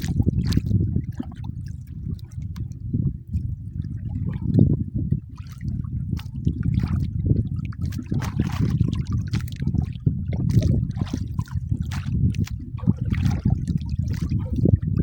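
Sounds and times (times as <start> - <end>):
low rumble: 0.0 - 15.0
water splashing around boat: 0.0 - 15.0.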